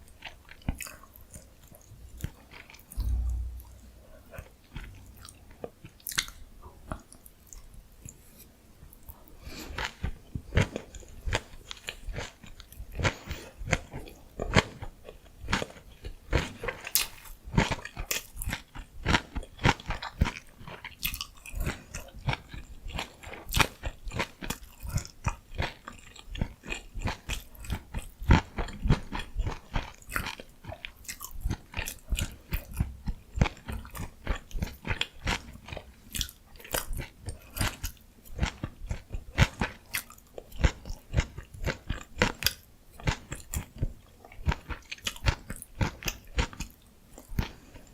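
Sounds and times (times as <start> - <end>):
chewing with wet crunches: 0.0 - 8.2, 8.8 - 47.9.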